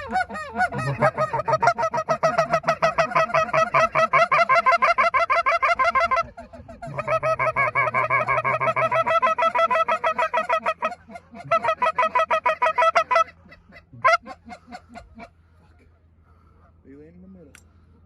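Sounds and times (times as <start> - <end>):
goose honking: 0.0 - 15.7.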